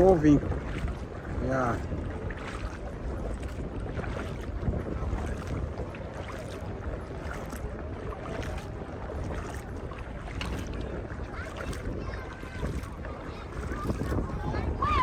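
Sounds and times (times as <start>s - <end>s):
sea water lapping: 0.0s - 15.0s
small water splashes: 0.0s - 15.0s
wind rumbling on microphone: 0.0s - 15.0s.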